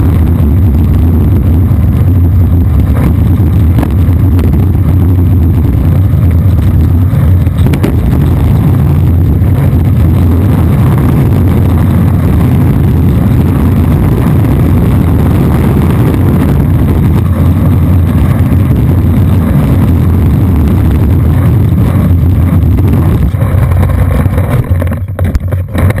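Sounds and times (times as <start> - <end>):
skateboard wheels rolling on asphalt: 0.0 - 26.0.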